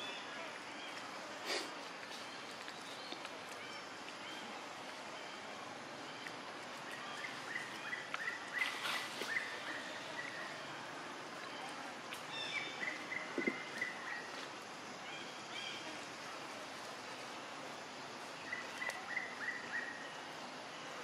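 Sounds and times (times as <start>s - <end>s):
background hiss: 0.0s - 21.0s
rustle: 0.0s - 21.0s.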